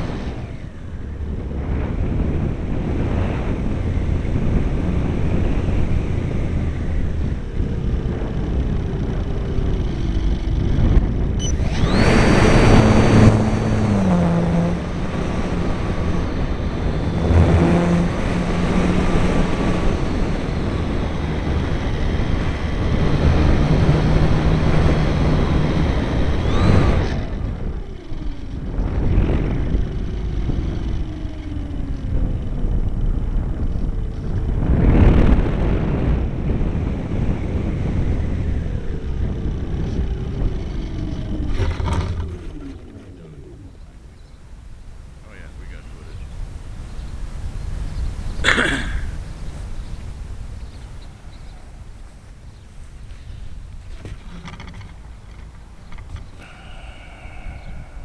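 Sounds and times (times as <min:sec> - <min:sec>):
model airplane motor whining: 0:00.0 - 0:46.4, 0:49.2 - 0:58.0
wind rushing over microphone: 0:00.0 - 0:58.0.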